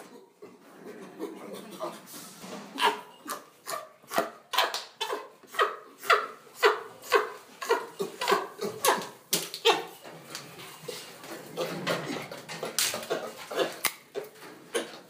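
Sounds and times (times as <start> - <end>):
chimpanzee food grunts: 0.0 - 10.0, 10.8 - 15.0.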